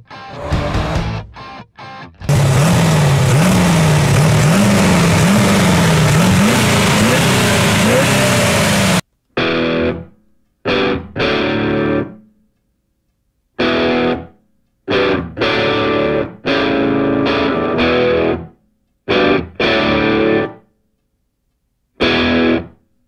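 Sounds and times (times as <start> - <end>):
distorted electric guitar chords: 0.0 - 12.3, 13.6 - 20.6, 22.0 - 22.8.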